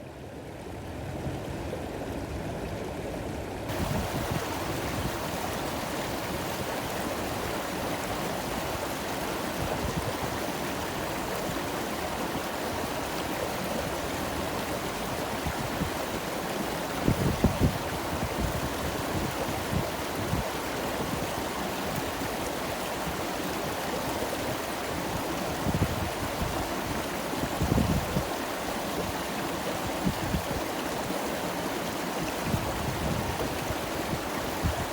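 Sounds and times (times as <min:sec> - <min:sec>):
stream water babbling: 0:00.0 - 0:34.9.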